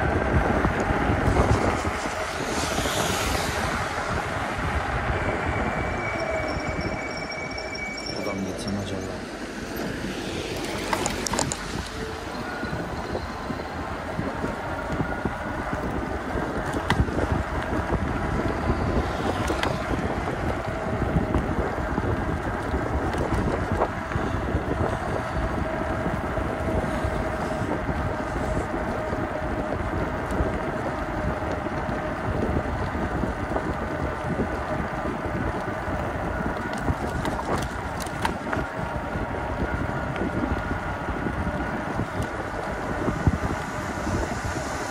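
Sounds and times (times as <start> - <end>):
wind buffeting microphone: 0.0 - 8.1, 9.4 - 44.9
electric bicycle road noise: 0.0 - 44.9.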